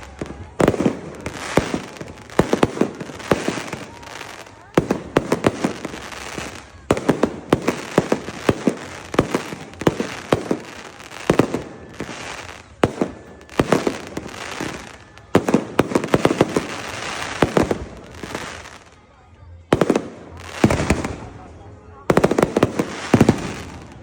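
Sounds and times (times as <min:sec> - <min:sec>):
fireworks crackle: 0:00.0 - 0:24.0.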